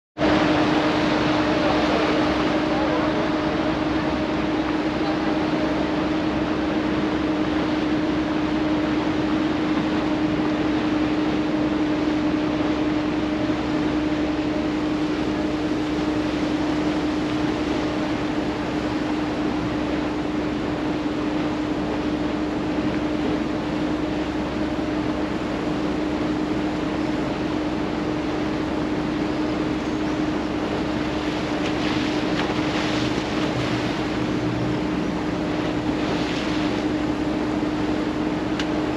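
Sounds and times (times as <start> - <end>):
boat engine drone: 0.2 - 38.9
water rushing past hull: 0.2 - 38.9.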